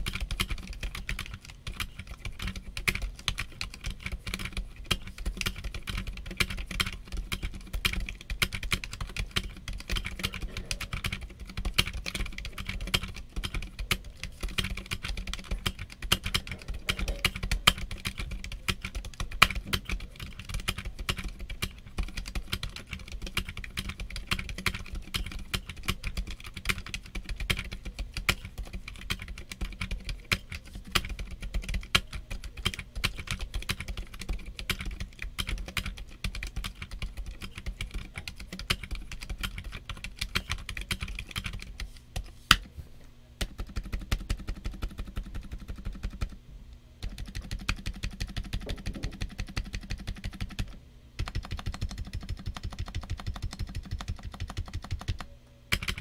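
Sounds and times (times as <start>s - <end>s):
keyboard typing: 0.0s - 42.7s, 43.4s - 46.4s, 47.0s - 56.0s.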